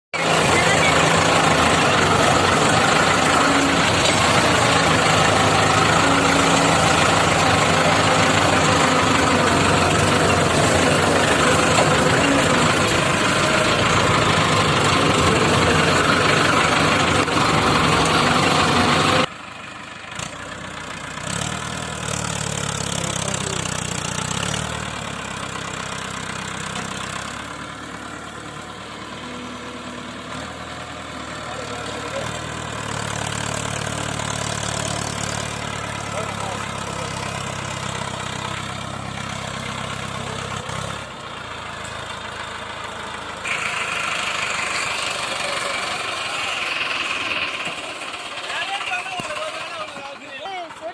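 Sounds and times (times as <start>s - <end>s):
tractor engine running: 0.1s - 50.9s.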